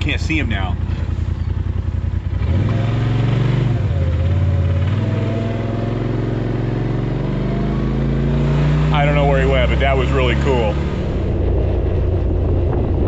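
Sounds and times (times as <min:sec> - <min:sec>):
utility vehicle engine accelerating: 0:00.0 - 0:13.0.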